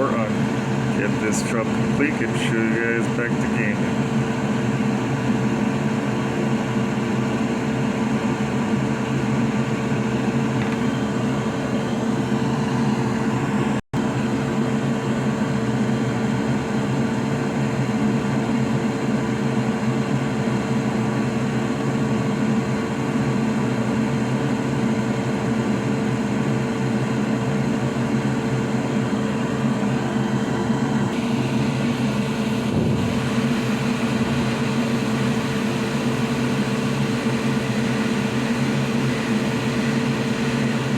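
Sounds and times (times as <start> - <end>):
electric fan hum: 0.0 - 40.9.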